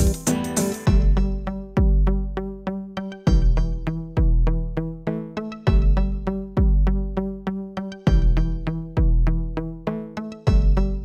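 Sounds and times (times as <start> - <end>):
electronic instrumental music: 0.0 - 11.0.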